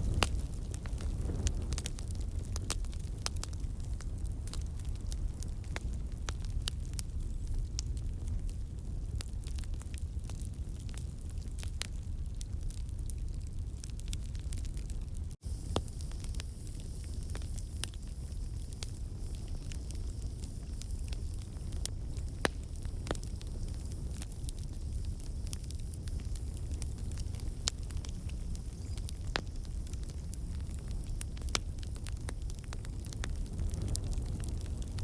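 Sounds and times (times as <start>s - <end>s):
burning logs popping and crackling: 0.0s - 35.0s
campfire flames rumbling: 0.0s - 35.0s.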